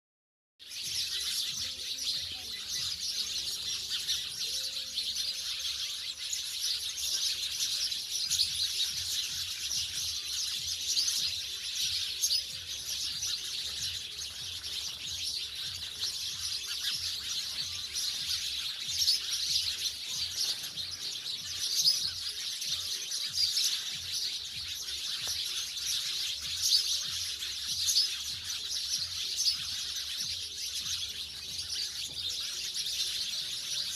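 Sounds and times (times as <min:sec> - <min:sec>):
sparrows chirping: 0:00.6 - 0:33.9.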